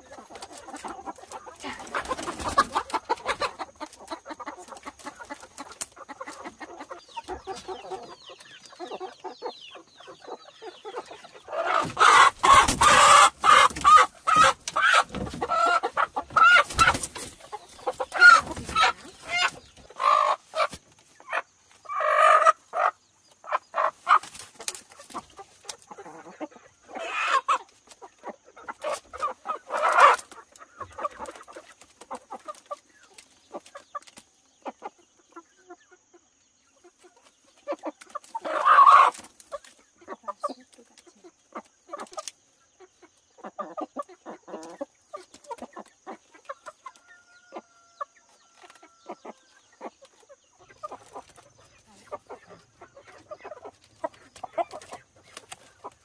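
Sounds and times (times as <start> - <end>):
chickens clucking and squawking: 0.0 - 56.0.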